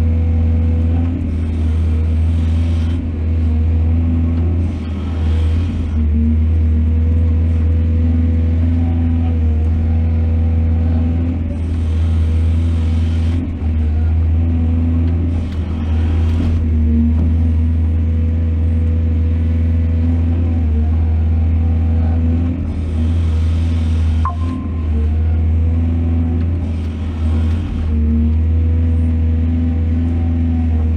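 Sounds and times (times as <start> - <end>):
excavator diesel engine rumbling: 0.0 - 30.9.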